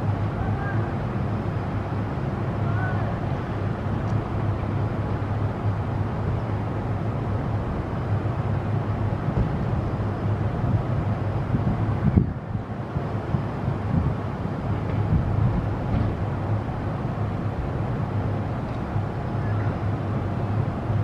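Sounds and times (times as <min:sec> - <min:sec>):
heavy road traffic rumble: 0:00.0 - 0:21.0.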